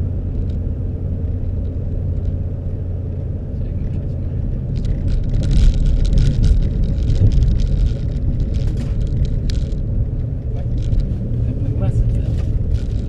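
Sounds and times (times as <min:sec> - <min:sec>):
car engine and road noise: 0:00.0 - 0:13.0
small rattles and clicks: 0:00.3 - 0:00.6, 0:01.2 - 0:13.0.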